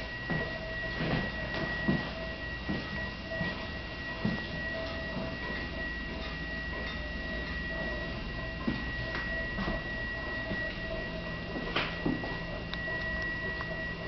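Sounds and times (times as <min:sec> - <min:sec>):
high-pitched whine: 0:00.0 - 0:14.0
low hum: 0:00.0 - 0:14.0
soft footsteps: 0:00.0 - 0:14.0.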